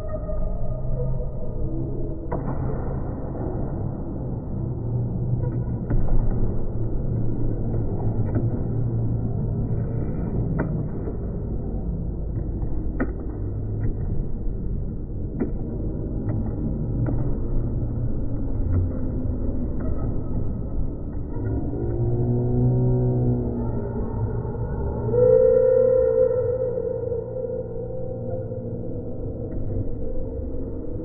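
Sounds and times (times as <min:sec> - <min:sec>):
low rumbling noise: 0:00.0 - 0:31.0.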